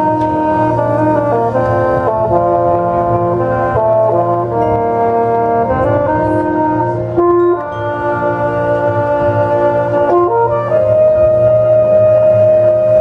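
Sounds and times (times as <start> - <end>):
brass section playing chords: 0.0 - 13.0.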